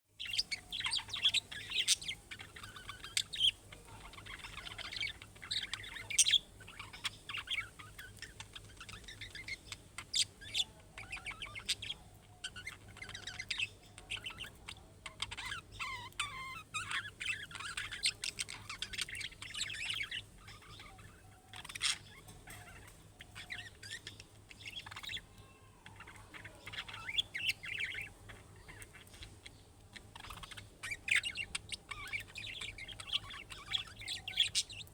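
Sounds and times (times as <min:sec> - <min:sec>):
sharp bird calls: 0:00.1 - 0:34.9
budgerigars chattering: 0:00.2 - 0:34.9.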